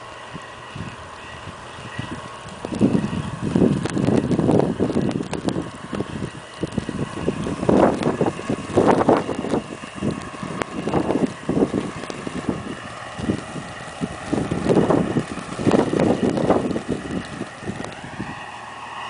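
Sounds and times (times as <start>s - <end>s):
faint mechanical hum: 0.0s - 19.0s
wind gusting against microphone: 0.0s - 19.0s.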